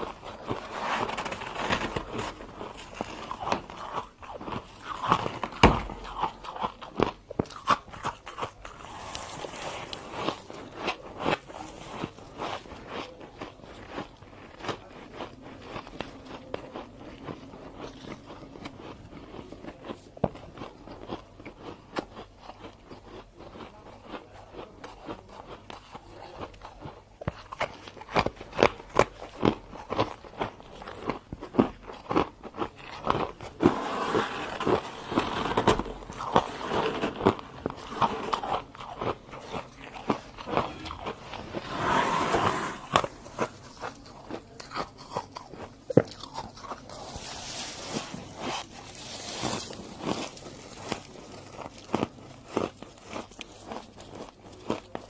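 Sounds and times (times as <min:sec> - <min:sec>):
frost being chewed: 0:00.0 - 0:55.0.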